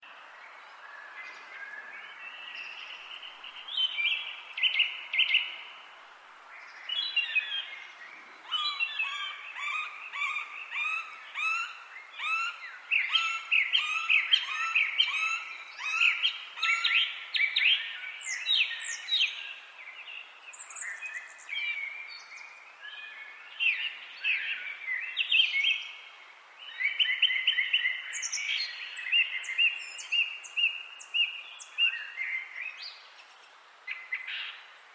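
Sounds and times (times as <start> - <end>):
faint steady hiss: 0.0 - 34.9
songbirds singing: 0.0 - 34.9.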